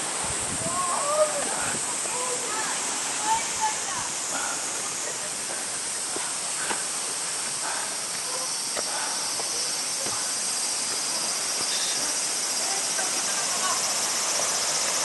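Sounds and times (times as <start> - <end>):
faint water splashes: 0.0 - 15.0
stream rushing over rocks: 0.0 - 15.0.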